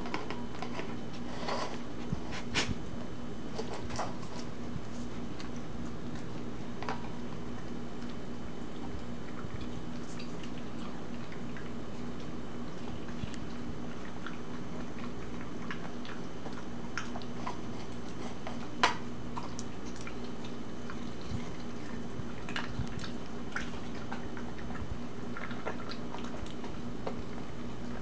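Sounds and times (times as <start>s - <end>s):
dog chewing and licking: 0.0s - 28.0s.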